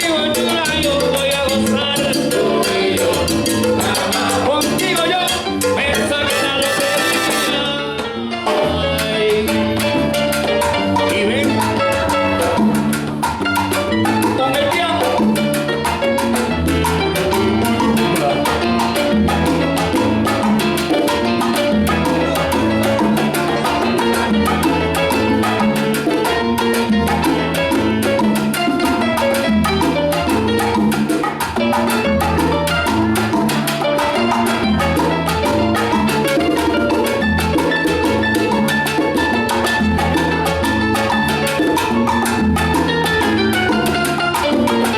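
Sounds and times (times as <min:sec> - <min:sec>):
bass line: 0:00.0 - 0:44.9
latin percussion: 0:00.0 - 0:44.9
salsa band playing: 0:00.0 - 0:44.9.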